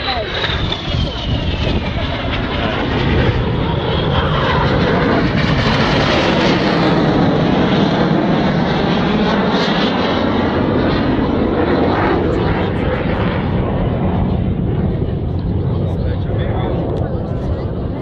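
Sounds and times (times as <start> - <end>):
jet roar: 0.0 - 18.0.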